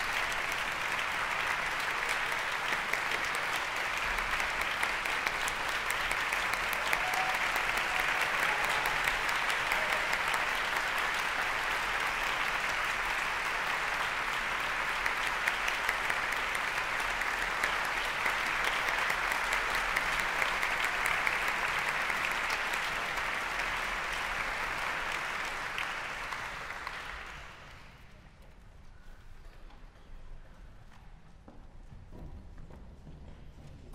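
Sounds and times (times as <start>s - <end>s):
audience applauding: 0.0s - 28.2s.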